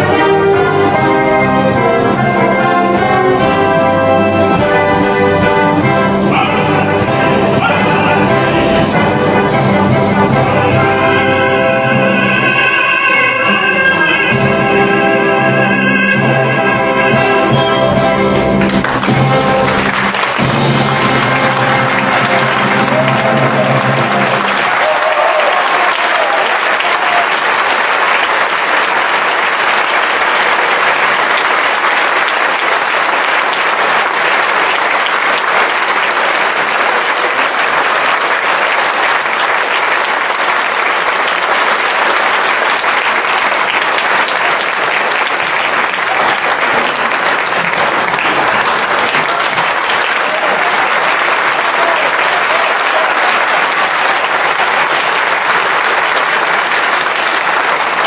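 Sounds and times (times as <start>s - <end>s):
audience applause: 0.0s - 58.0s.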